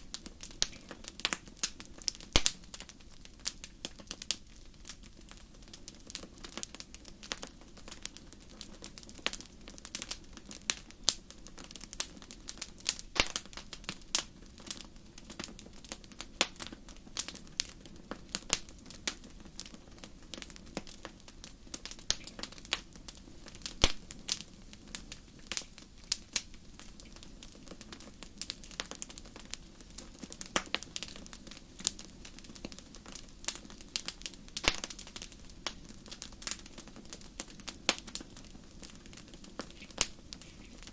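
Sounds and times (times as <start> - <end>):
campfire crackling and popping: 0.0 - 40.9
faint low hiss: 0.0 - 40.9.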